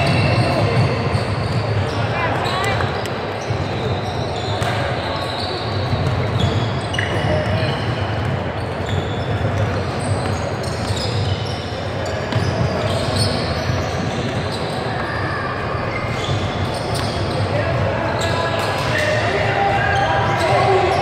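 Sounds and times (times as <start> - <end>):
sneakers squeaking: 0.0 - 21.0
voices echoing in a hall: 0.0 - 21.0.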